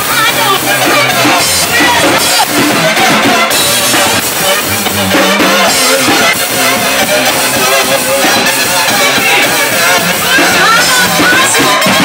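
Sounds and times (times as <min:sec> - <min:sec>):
loud music with drum beat: 0:00.0 - 0:12.0.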